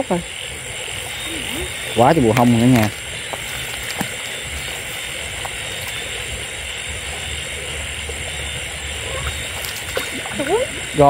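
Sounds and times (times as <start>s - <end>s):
insects and frogs chorus: 0.0s - 11.0s.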